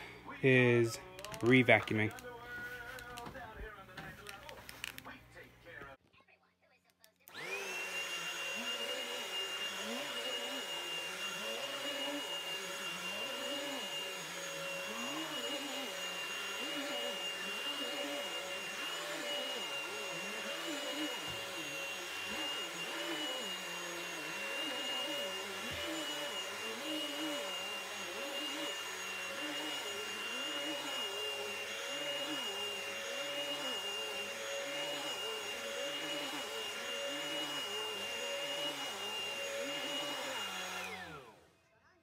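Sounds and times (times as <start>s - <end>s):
vacuum cleaner whining: 0.0s - 5.8s, 7.2s - 41.7s.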